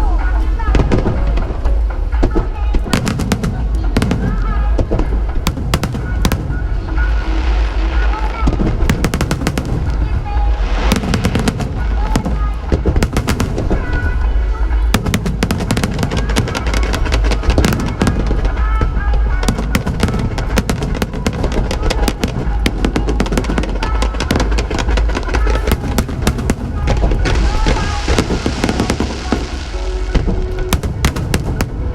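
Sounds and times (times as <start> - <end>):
fireworks bangs and crackles: 0.0 - 31.9
low rumble: 0.0 - 31.9
music playing: 0.0 - 31.9.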